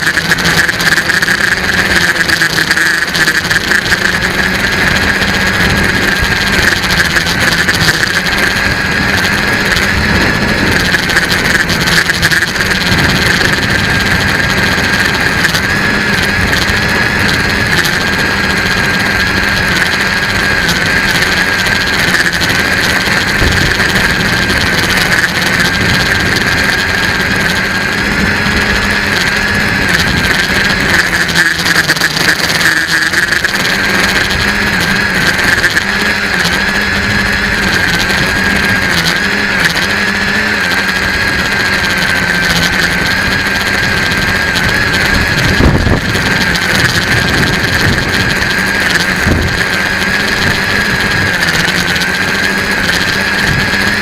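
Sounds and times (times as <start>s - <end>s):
electric motors and propellers whining: 0.0s - 54.0s
wind noise on microphone: 0.0s - 54.0s.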